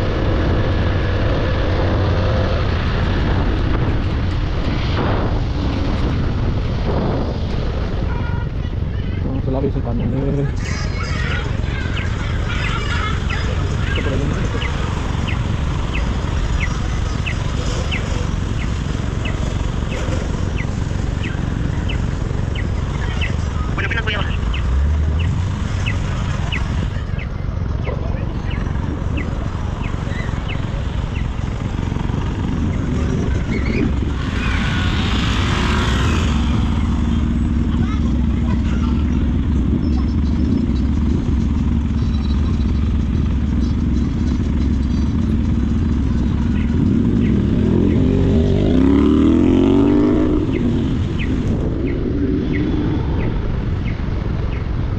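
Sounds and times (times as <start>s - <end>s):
motorcycle engine rumble: 0.0s - 54.9s
wind noise: 0.0s - 54.9s.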